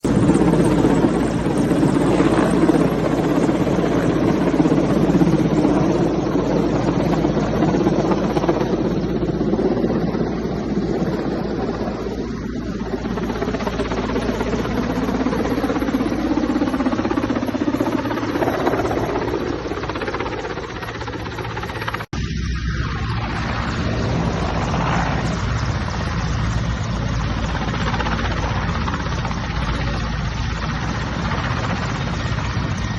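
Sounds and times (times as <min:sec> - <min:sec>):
helicopter engines and rotor: 0:00.0 - 0:32.9.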